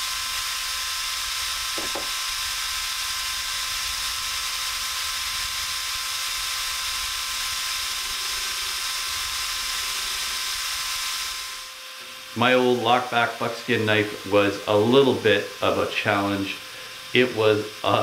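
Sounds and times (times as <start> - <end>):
electric drill running: 0.0 - 18.0.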